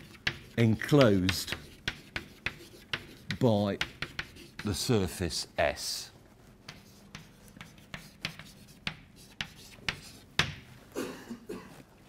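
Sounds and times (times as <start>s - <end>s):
chalk tapping and scraping: 0.0s - 10.7s.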